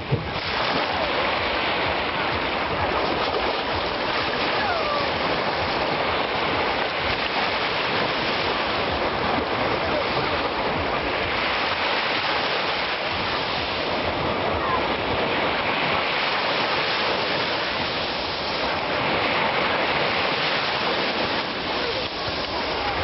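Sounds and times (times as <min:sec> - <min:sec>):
sea waves washing onto shore: 0:00.0 - 0:23.0.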